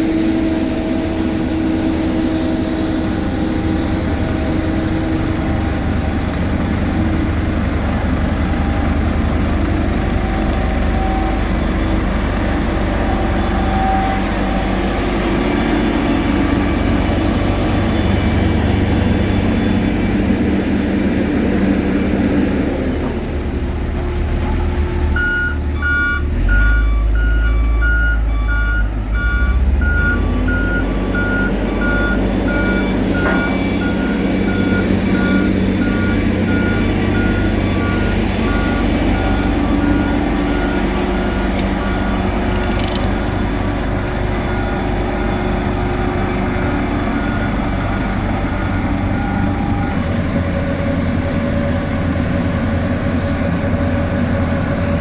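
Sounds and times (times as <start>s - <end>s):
reversing alarm beeping: 0.0s - 20.8s, 25.1s - 50.0s
heavy diesel engines running: 0.0s - 55.0s.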